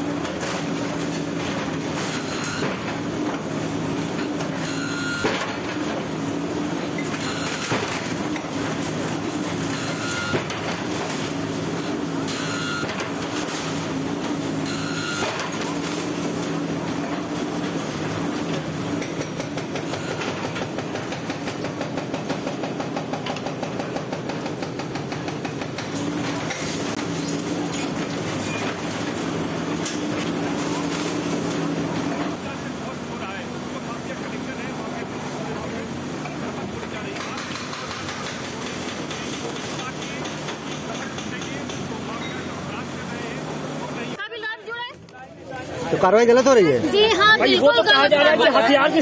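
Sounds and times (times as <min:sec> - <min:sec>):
excavator diesel engines running: 0:00.0 - 0:49.0.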